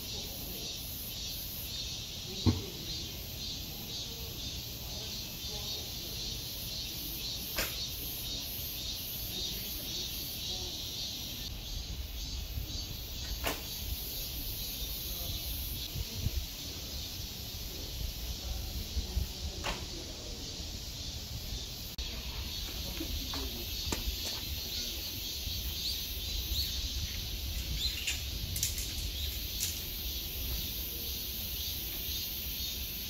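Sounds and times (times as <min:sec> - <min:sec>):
cicadas chorus: 0:00.0 - 0:33.0.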